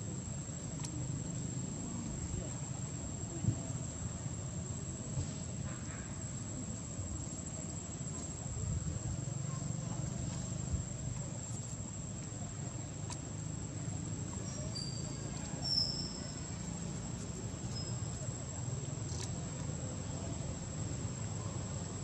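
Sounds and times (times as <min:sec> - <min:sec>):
high thin insect drone: 0:00.1 - 0:22.0.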